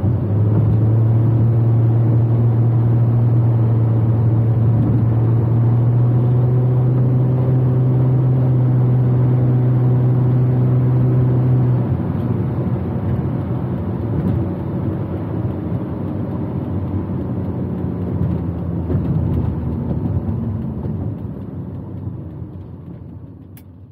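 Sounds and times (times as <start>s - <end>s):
car engine drone: 0.0s - 23.9s
road noise: 0.0s - 23.9s.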